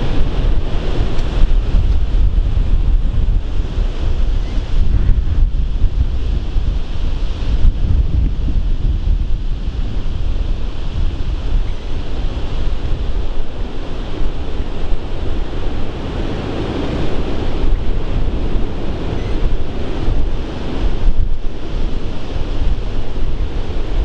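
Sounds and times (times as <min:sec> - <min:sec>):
tornado roar: 0:00.0 - 0:24.0
wind buffeting microphone: 0:00.0 - 0:24.0.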